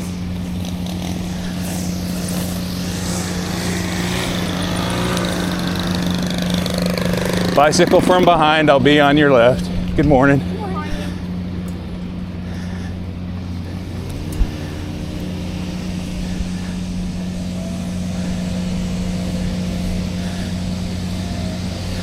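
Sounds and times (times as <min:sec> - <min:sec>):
rising tones: 0:00.0 - 0:12.4, 0:13.1 - 0:22.0
low hum: 0:00.0 - 0:22.0
wind and tyre rush: 0:00.0 - 0:22.0.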